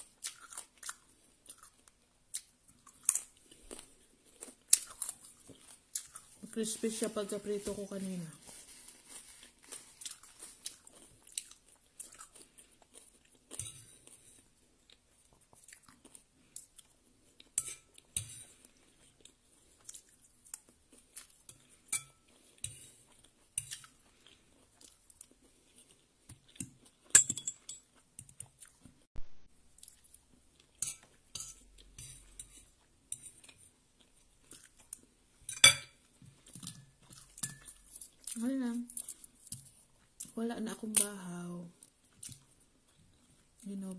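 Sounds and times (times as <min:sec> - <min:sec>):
chewing and crunching food: 0:00.0 - 0:29.1, 0:29.7 - 0:43.9.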